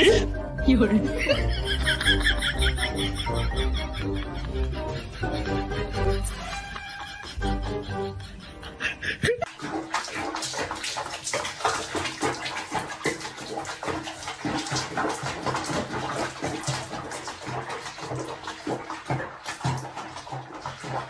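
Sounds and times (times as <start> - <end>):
water splashing in bathtub: 0.0 - 7.6, 9.2 - 21.0.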